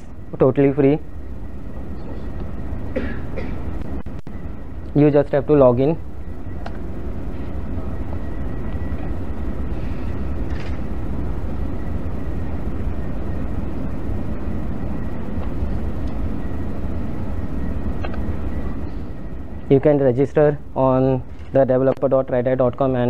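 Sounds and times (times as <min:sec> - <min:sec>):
low room rumble: 0:00.0 - 0:23.0.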